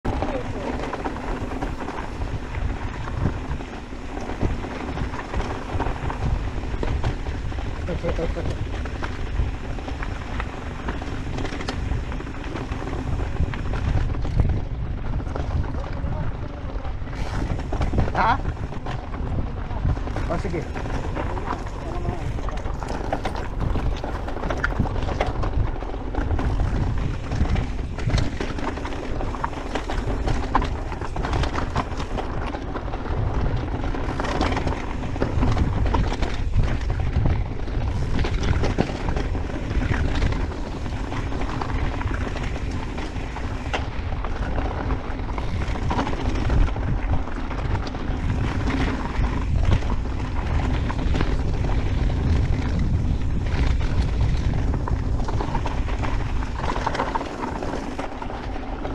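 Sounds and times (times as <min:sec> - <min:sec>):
wind buffeting microphone: 0:00.0 - 0:58.9
bike tyres crunching on gravel: 0:00.1 - 0:58.9.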